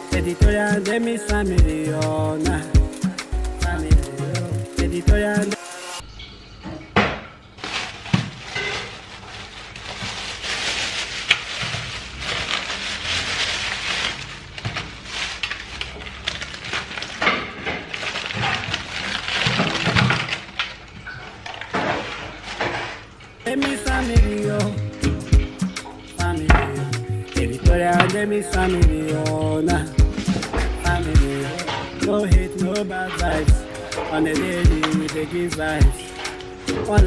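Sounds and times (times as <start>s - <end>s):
plastic bag rustling: 0.0s - 6.0s, 7.4s - 37.0s.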